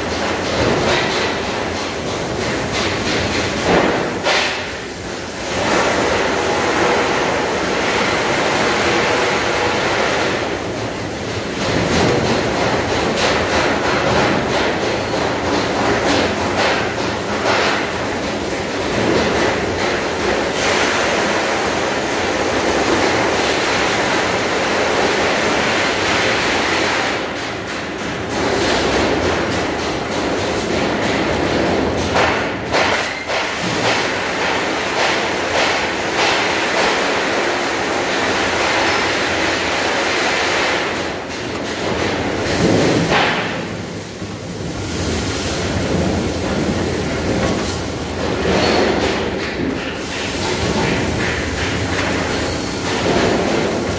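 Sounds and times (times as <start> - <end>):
cutting machine hiss and rumble: 0.0 - 31.8, 32.4 - 53.9.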